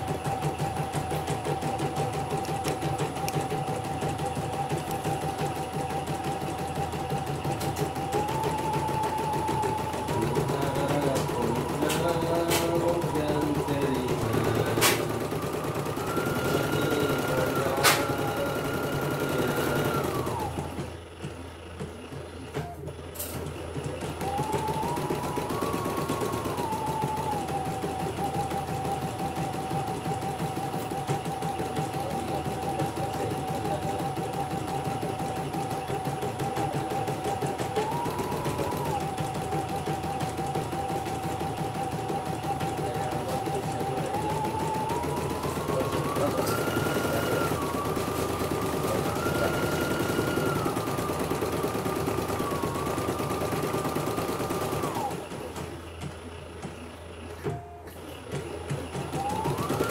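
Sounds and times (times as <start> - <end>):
embroidery machine stitching: 0.0 - 59.9.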